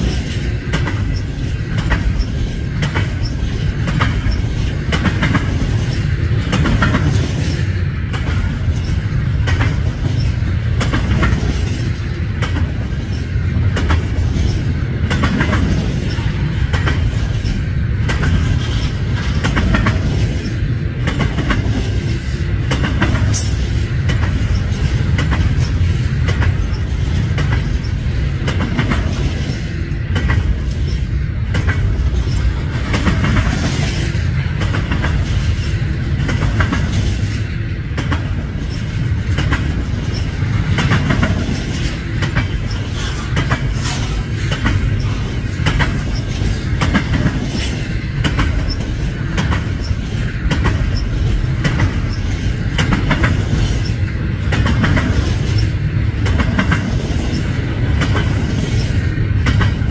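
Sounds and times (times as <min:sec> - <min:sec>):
freight train rumbling: 0:00.0 - 0:59.9
wheels clacking over rail joints: 0:00.0 - 0:59.9.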